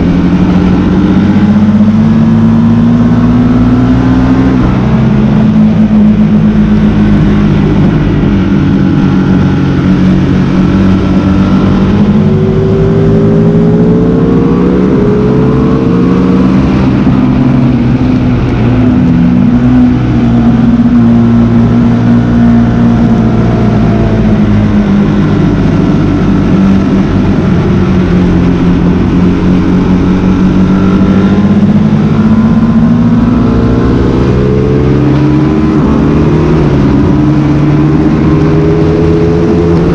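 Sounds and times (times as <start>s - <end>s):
motorcycle engine racing: 0.0s - 39.9s
steady rush of noise: 0.0s - 39.9s.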